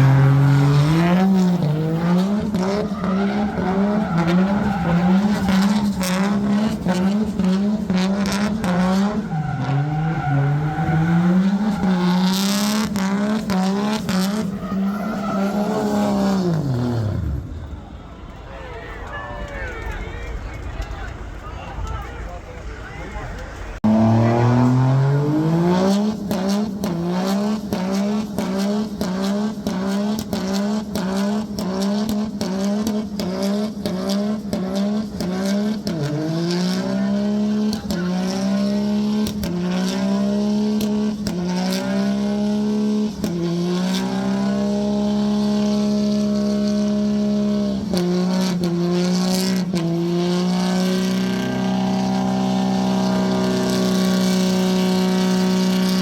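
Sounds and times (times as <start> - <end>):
engine revving hard: 0.0 - 17.5, 23.8 - 56.0.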